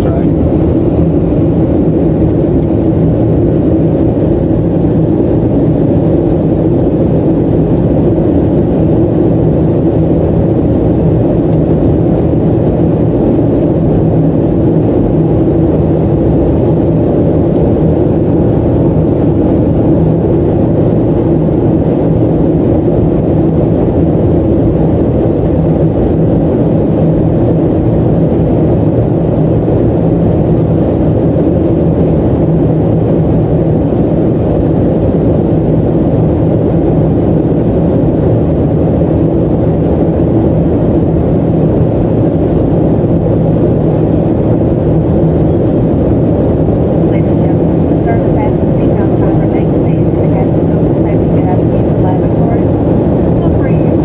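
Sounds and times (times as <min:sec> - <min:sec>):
air rushing along fuselage: 0:00.0 - 0:54.0
jet engines drone in cabin: 0:00.0 - 0:54.0.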